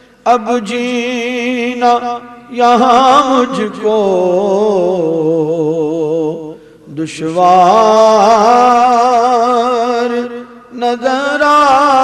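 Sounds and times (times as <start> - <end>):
man singing into a microphone: 0.2 - 12.0.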